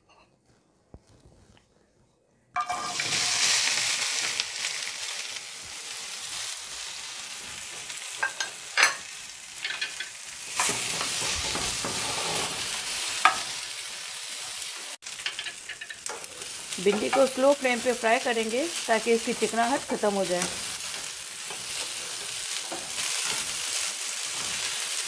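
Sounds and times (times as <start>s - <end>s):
okra sizzling in hot oil: 2.6s - 25.0s.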